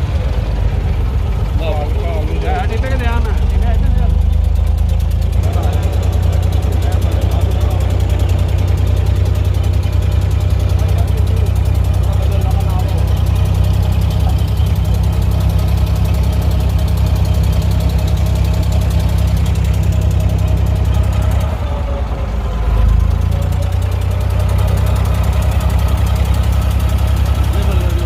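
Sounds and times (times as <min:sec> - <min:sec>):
boat diesel engine rumbling: 0:00.0 - 0:28.0.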